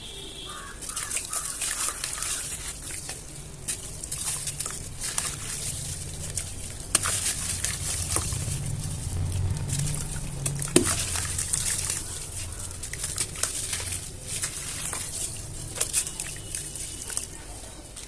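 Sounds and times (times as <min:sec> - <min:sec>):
cement and sand crumbling: 0:01.0 - 0:18.0.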